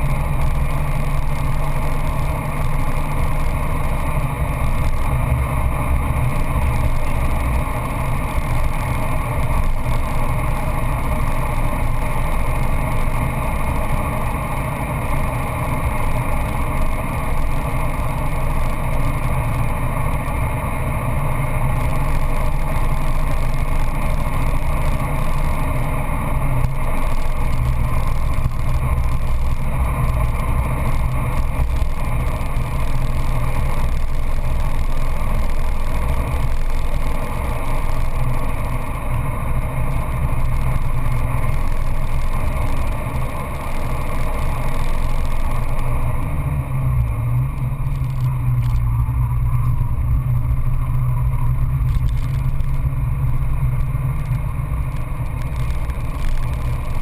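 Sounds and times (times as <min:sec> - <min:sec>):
car engine pulling at speed: 0:00.0 - 0:57.0
road and wind noise: 0:00.0 - 0:57.0.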